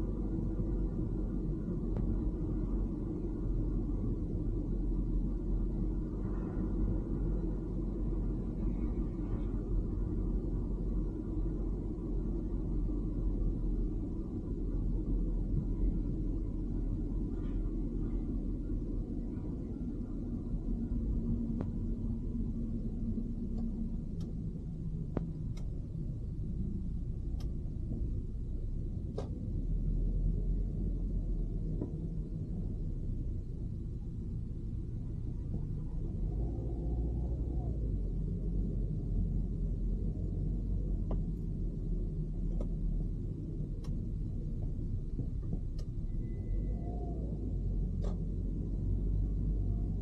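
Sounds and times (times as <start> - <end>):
car engine and road rumble: 0.0 - 50.0
hum: 0.0 - 50.0.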